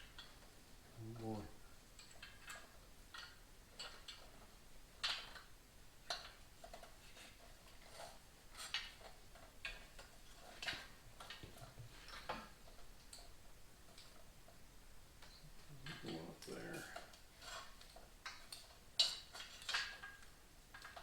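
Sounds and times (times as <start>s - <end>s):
metal tools clicking and tapping: 1.9s - 5.5s, 6.1s - 14.6s, 15.2s - 21.0s.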